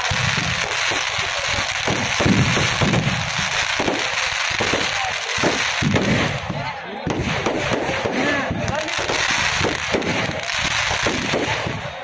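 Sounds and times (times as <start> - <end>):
fire crackling: 0.0 - 12.0
firecrackers cracking and banging: 0.0 - 12.0.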